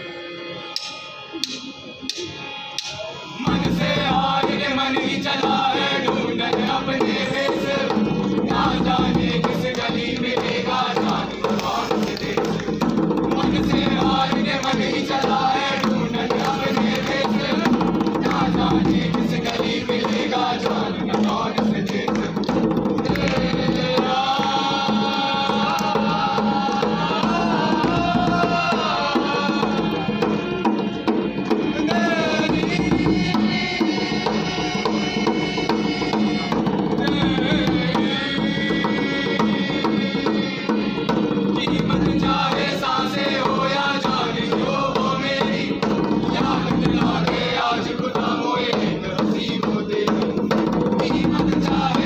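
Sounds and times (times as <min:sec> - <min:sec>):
group chanting and singing: 0:00.0 - 0:52.0
hand drums: 0:00.8 - 0:52.0.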